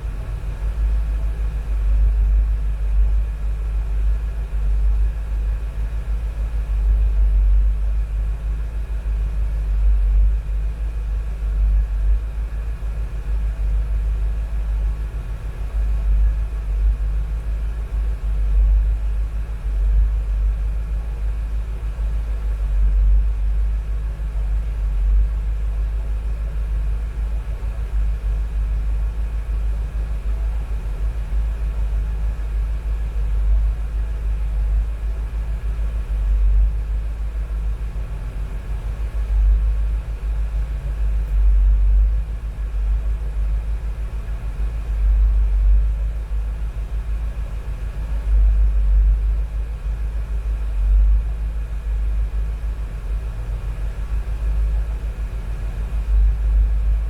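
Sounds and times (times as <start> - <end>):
air conditioning hum: 0.0 - 57.0.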